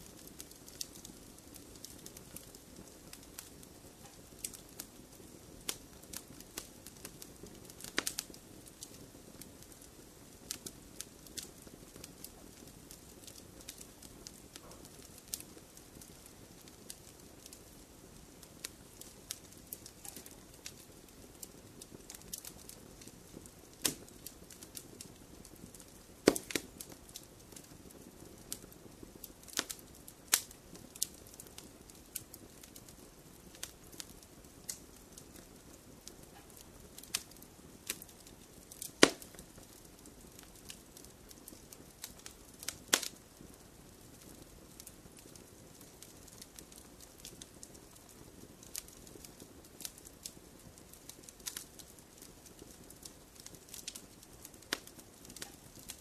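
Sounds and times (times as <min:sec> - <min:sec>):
fire hissing: 0:00.0 - 0:56.0
fire popping and snapping: 0:00.0 - 0:56.0.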